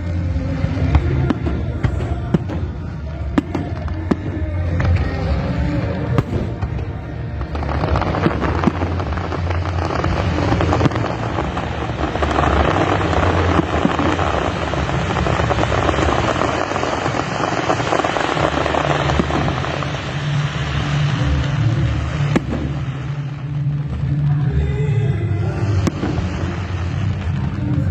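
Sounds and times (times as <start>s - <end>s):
fireworks crackling: 0.0s - 27.9s
steady low rumble: 0.0s - 27.9s.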